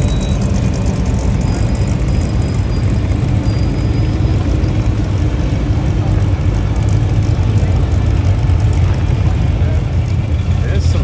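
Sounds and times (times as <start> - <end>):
engine rumbling rolling by: 0.0 - 11.0.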